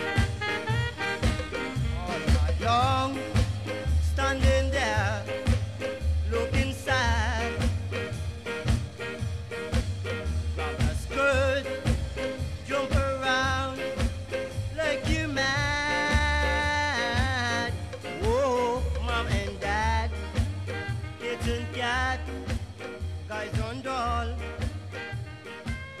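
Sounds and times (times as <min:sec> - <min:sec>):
upbeat song with steady beat: 0:00.0 - 0:26.0.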